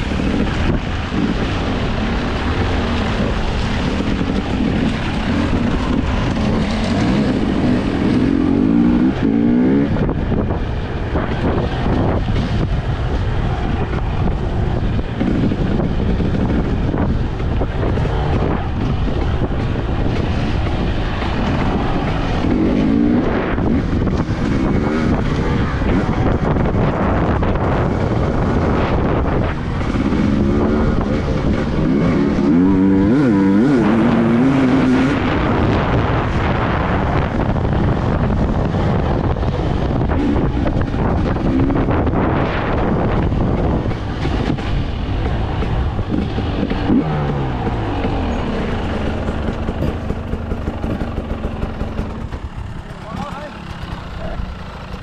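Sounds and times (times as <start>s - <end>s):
motorbike engine revving: 0.0s - 55.0s
wind buffeting microphone: 0.0s - 55.0s.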